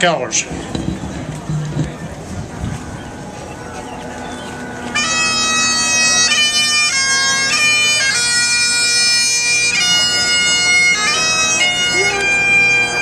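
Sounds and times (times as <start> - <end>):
bagpipes playing a tune: 0.0 - 13.0.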